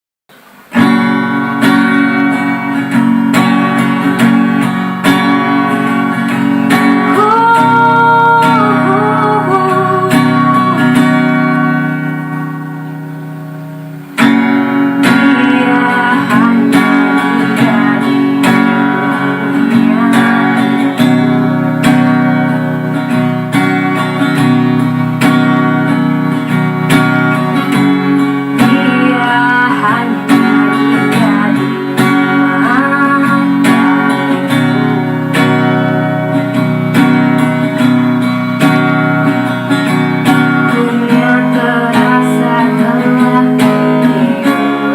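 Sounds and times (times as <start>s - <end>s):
guitar playing: 0.3s - 44.9s.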